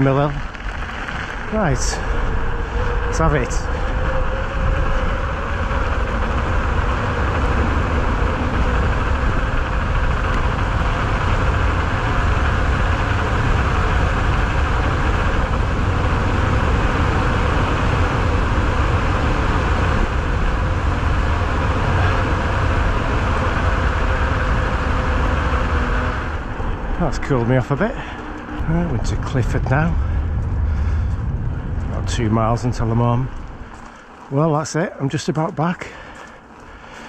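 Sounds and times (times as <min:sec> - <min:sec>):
bike tyres on tarmac: 0:00.0 - 0:37.0
wind buffeting microphone: 0:00.0 - 0:37.0.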